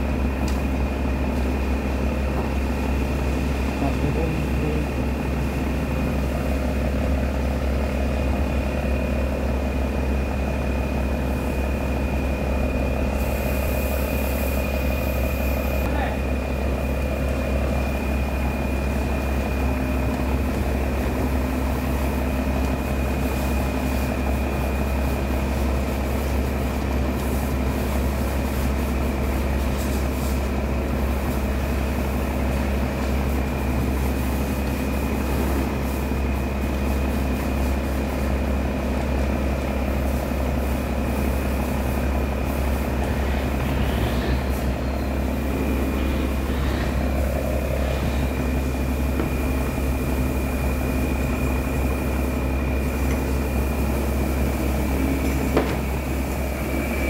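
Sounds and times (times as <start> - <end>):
boat engine hum: 0.0 - 57.0
thin steady whine: 0.0 - 57.0.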